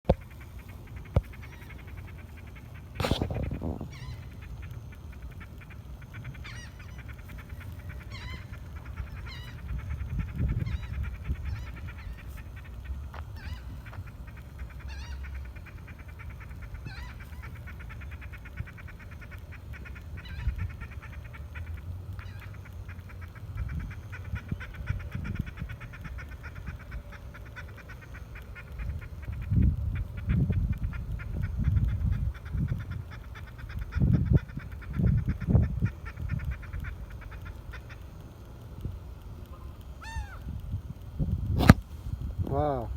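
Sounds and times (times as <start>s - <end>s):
gulls calling: 0.1s - 30.4s, 31.0s - 40.6s.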